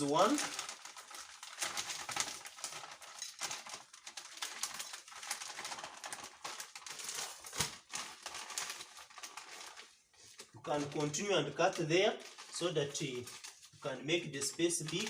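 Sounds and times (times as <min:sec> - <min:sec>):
plastic packet crackling: 0:00.0 - 0:15.0.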